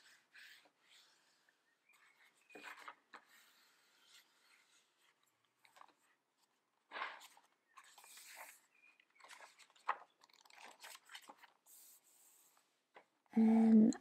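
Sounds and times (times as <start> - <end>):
paper pages rustling: 0.0 - 13.1.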